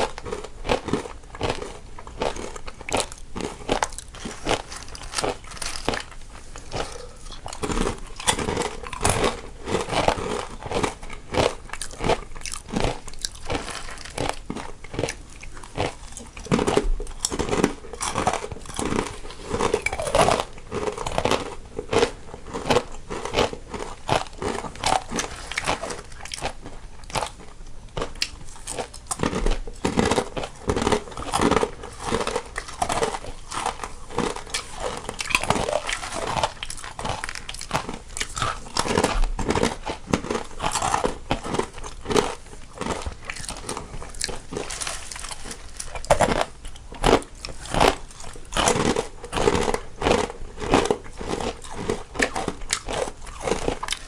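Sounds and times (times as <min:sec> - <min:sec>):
people chewing crunchy snacks: 0:00.0 - 0:54.0.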